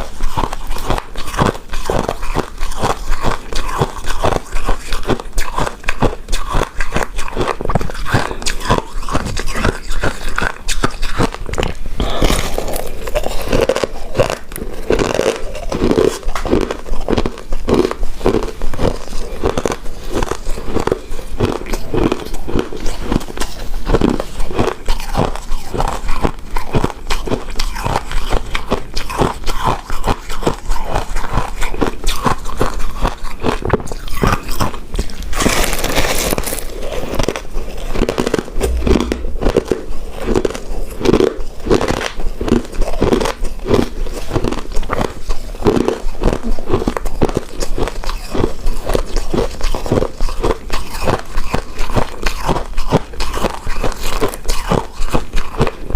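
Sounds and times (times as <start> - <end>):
wet chewing and biting: 0.0 - 55.9.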